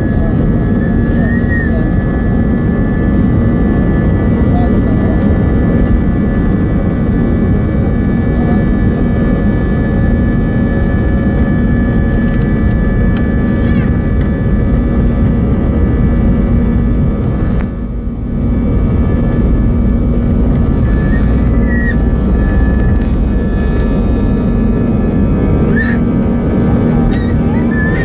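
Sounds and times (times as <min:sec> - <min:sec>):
jet engines roaring in cabin: 0:00.0 - 0:28.0.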